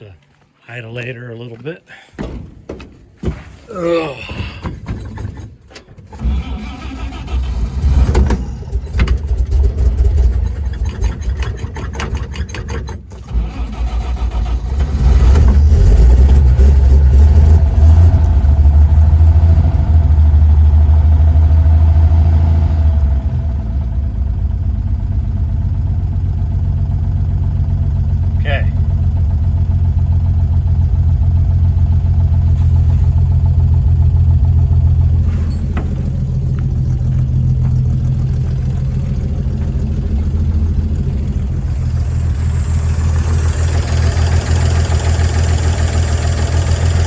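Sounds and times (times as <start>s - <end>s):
truck engine starting and revving: 3.7s - 47.0s.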